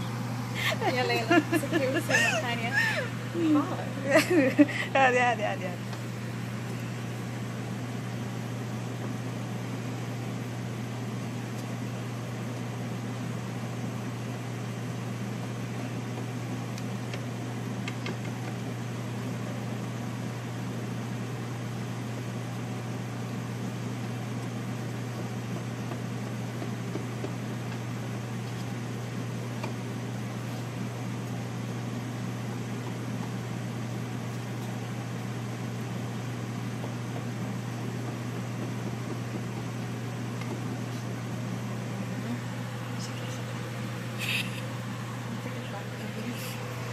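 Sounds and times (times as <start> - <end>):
kitchen fan motor humming: 0.0 - 46.9.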